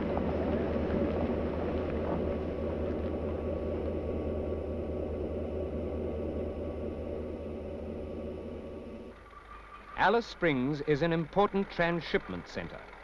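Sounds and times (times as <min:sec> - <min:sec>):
constant low hum: 0:00.0 - 0:13.0
low mechanical rumble: 0:00.0 - 0:13.0.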